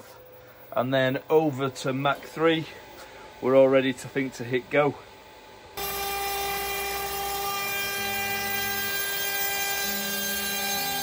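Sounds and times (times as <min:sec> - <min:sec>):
router spindle high whine: 0:00.9 - 0:11.0.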